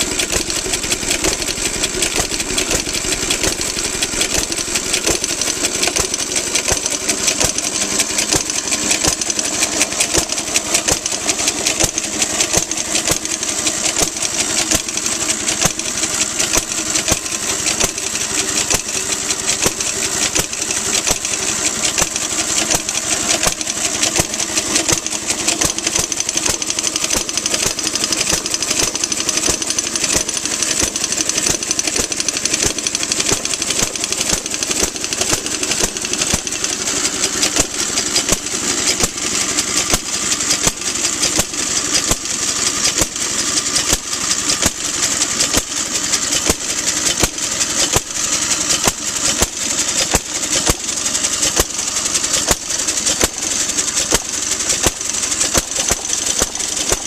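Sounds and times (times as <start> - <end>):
engine firing beats: 0.0 - 57.0.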